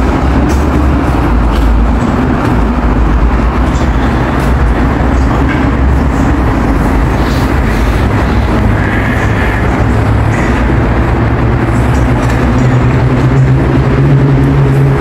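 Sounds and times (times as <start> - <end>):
low street noise rumble: 0.0 - 15.0.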